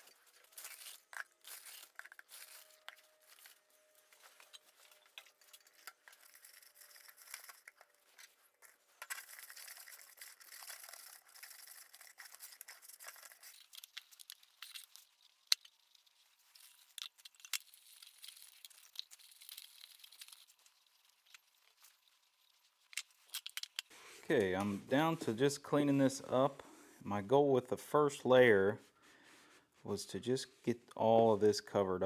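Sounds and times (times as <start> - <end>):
insulation rustling and tearing: 0.0 - 26.1.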